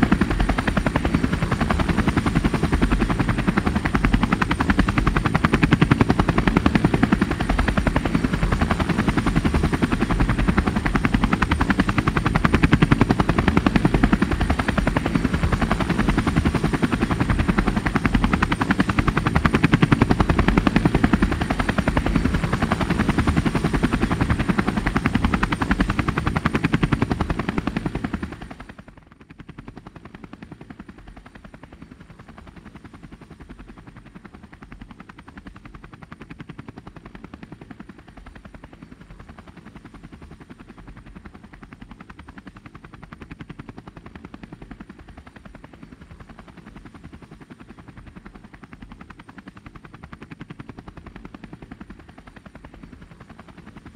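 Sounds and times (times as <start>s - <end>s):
helicopter rotor chopping: 0.0s - 53.9s.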